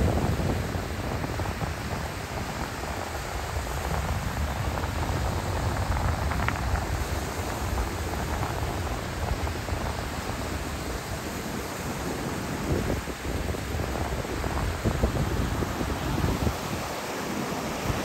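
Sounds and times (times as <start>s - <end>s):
waves breaking on beach: 0.0s - 18.0s
wind buffeting microphone: 0.0s - 18.0s.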